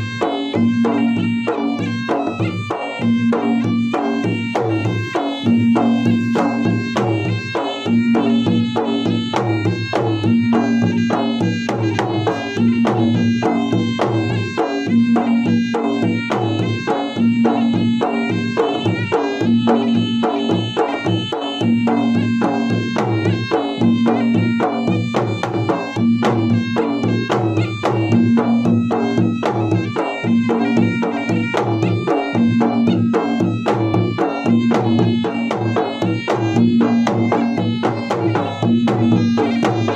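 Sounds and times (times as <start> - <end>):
fast drumming: 0.0 - 39.9
pitched melody line: 0.0 - 39.9.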